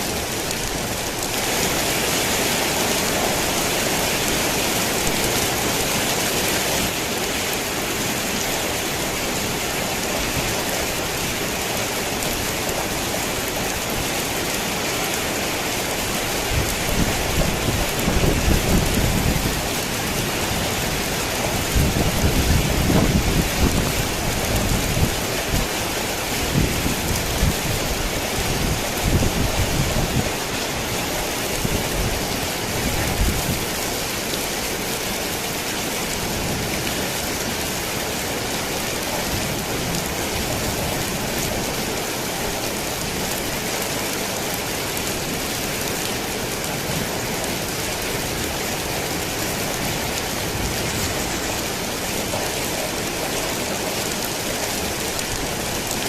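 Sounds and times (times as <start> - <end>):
rain pattering on a tin roof: 0.0 - 56.0.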